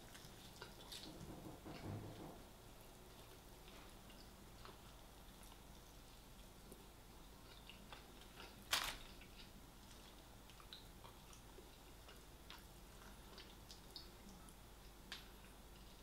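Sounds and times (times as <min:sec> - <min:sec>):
person chewing: 0:00.0 - 0:01.1, 0:03.2 - 0:16.0.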